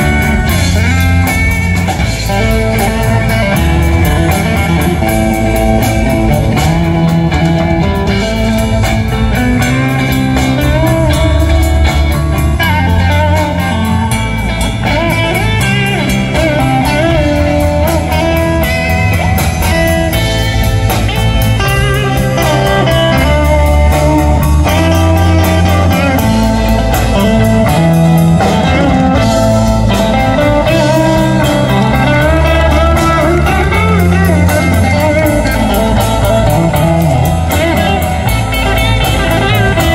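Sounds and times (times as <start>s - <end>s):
drum kit: 0.0s - 39.9s
electric bass: 0.0s - 39.9s
electric guitar lead with bent notes: 0.0s - 39.9s
second electric guitar: 0.0s - 39.9s.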